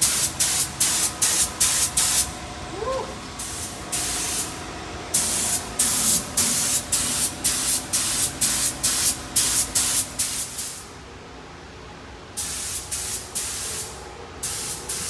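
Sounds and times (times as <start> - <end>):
paint spraying in hissing bursts: 0.0 - 2.3, 3.4 - 10.9, 12.4 - 15.0.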